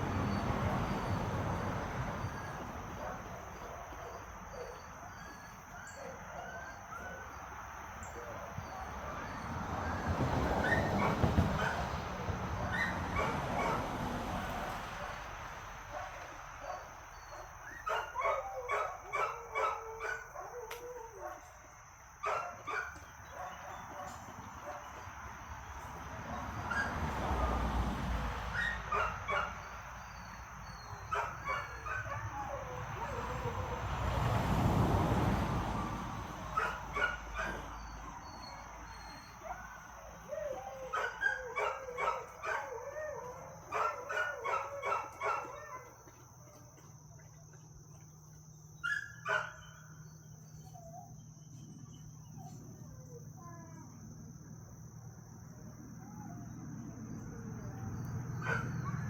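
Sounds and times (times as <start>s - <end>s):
dogs barking and yipping: 0.0s - 15.2s, 15.8s - 25.2s, 25.8s - 48.1s, 48.7s - 53.4s, 56.2s - 59.0s.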